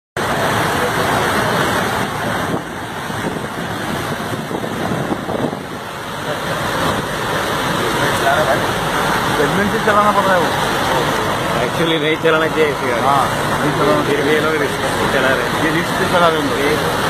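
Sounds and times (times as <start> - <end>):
churning water: 0.2 - 17.0
vehicle engines rushing: 0.2 - 17.0.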